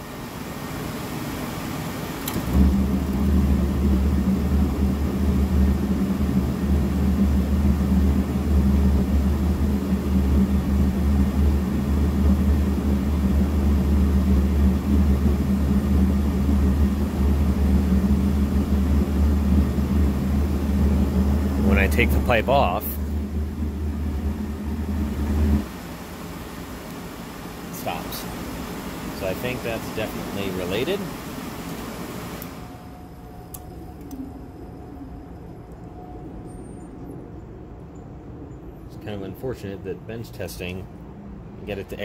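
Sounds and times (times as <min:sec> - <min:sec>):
furnace blower running: 0:00.0 - 0:36.8
burner igniting with low roar: 0:00.0 - 0:42.0.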